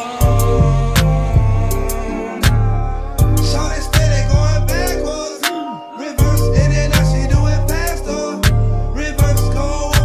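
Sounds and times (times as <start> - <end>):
instrumental hip-hop beat: 0.0 - 10.0.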